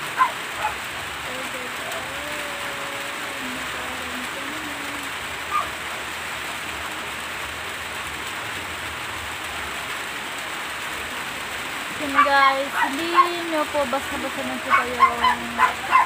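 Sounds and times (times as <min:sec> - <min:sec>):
rain on a metal roof: 0:00.0 - 0:16.0.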